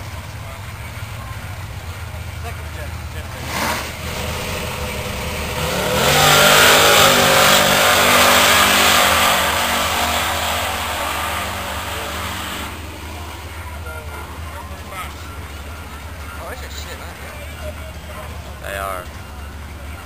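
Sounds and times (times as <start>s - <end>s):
drag car engine revving: 0.0s - 20.0s.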